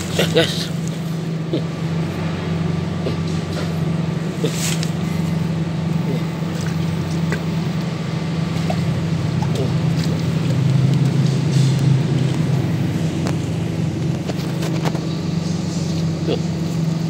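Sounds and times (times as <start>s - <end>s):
small engine droning: 0.0s - 17.0s.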